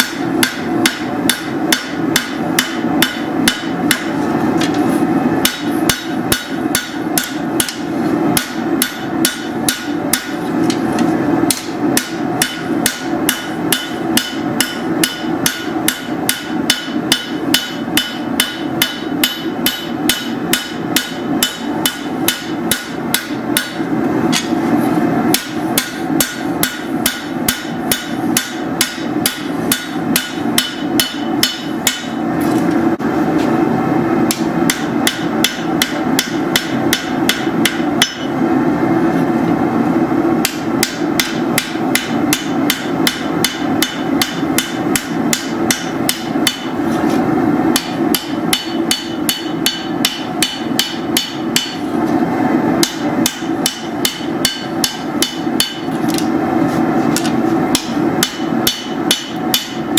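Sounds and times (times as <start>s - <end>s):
hammer striking steel on anvil: 0.0s - 4.8s, 5.4s - 24.6s, 25.2s - 32.3s, 34.3s - 38.4s, 40.4s - 46.8s, 47.7s - 51.9s, 52.8s - 56.3s, 57.2s - 59.9s.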